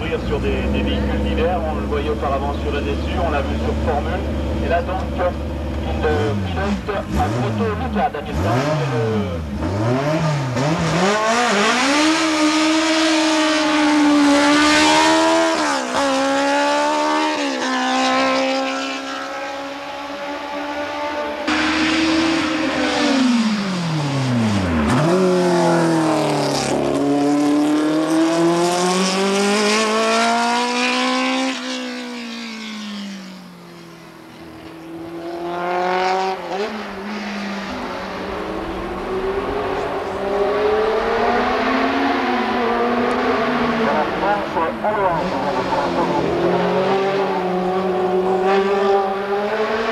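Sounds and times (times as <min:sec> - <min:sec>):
race car engine at full throttle: 0:00.0 - 0:49.9.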